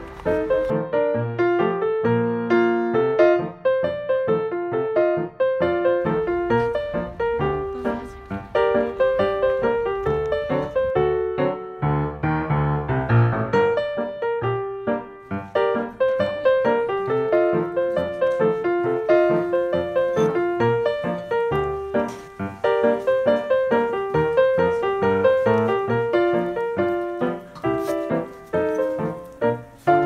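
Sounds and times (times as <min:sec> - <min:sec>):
gentle piano music: 0:00.0 - 0:30.0.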